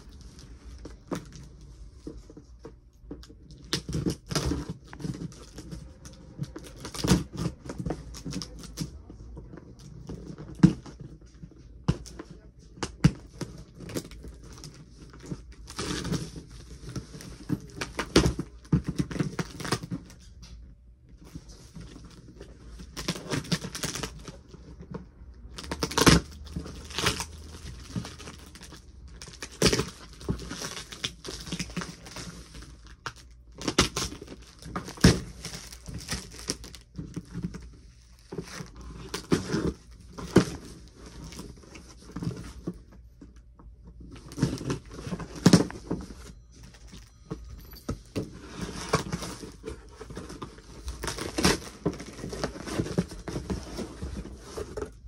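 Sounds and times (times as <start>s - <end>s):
cardboard rustling and scraping: 0.0s - 55.0s.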